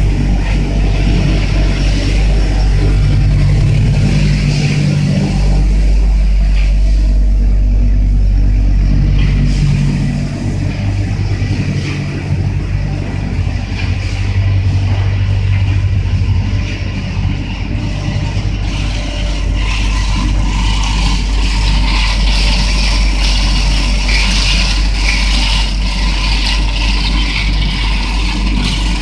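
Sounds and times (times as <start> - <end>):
low motor drone: 0.0 - 29.0.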